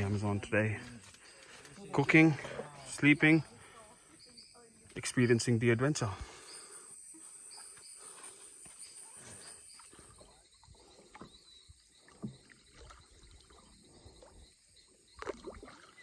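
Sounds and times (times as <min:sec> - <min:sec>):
high insect drone: 0:00.0 - 0:15.6.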